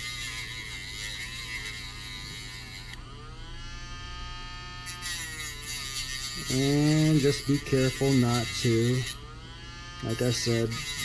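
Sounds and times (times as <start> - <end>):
rotary tool whining: 0.0 - 11.0.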